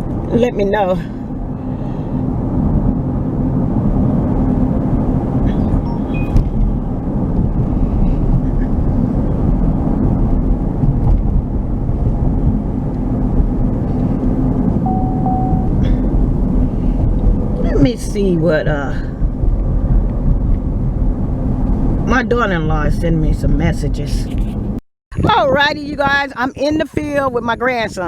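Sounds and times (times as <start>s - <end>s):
road and engine drone: 0.0s - 24.8s.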